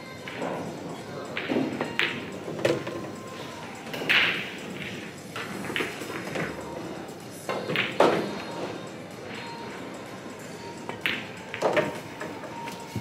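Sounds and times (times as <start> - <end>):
pool balls clattering: 0.2 - 13.0
pool balls clicking: 0.2 - 13.0.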